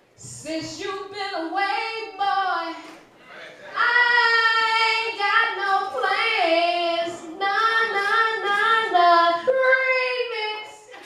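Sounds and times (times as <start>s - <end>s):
woman singing unaccompanied: 0.2s - 2.8s, 3.8s - 10.9s.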